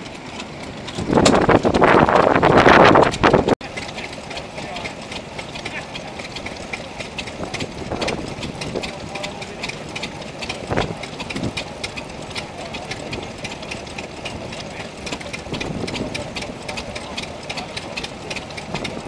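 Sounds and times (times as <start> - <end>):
engine thump: 0.0 - 19.0
stationary engines clattering: 0.0 - 19.0.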